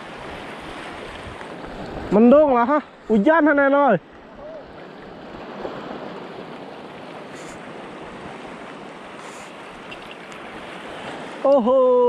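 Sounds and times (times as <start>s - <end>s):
sea water lapping: 0.0s - 12.0s.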